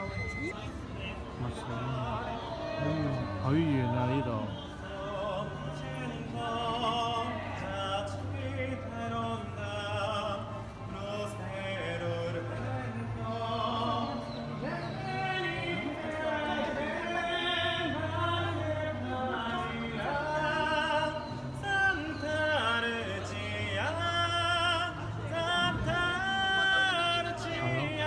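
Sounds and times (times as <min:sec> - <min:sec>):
person singing operatically: 0:00.5 - 0:28.0.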